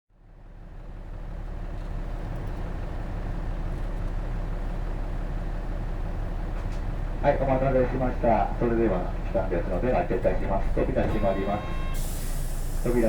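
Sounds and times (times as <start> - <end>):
bus diesel engine idling: 0.1 - 13.0.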